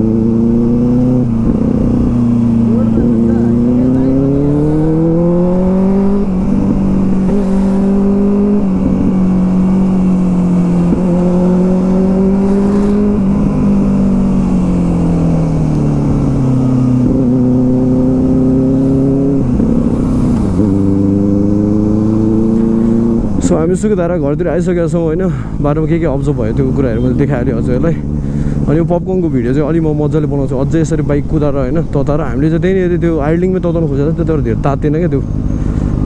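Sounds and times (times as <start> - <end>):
motorcycle engine shifting gears: 0.0 - 24.6, 25.3 - 36.0.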